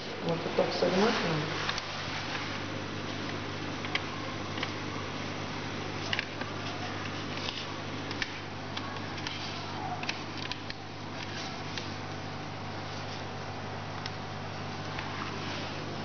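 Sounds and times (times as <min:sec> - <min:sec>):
aquarium pump humming: 0:00.0 - 0:16.0.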